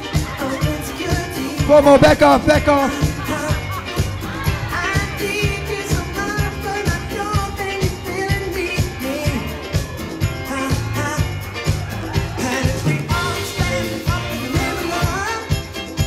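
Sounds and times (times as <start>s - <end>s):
song with singing over drum beat: 0.0s - 16.0s.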